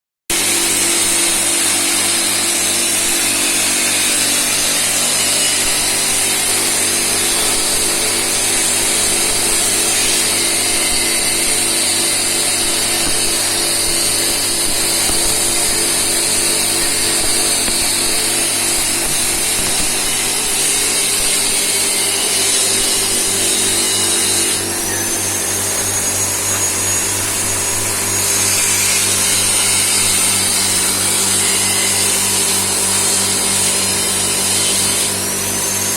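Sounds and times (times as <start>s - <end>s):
metalworking equipment hiss: 0.3s - 35.9s.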